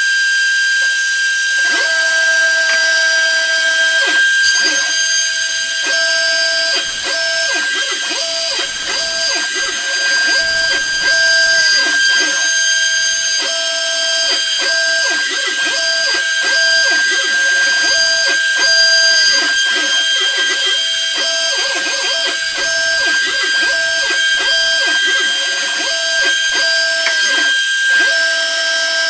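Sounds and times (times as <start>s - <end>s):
router spindle high whine: 0.0s - 29.0s
stepper motors tones: 0.2s - 29.0s.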